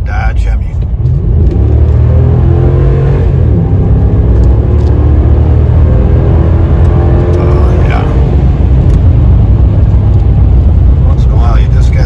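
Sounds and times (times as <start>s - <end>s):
truck engine accelerating hard: 0.8s - 12.0s.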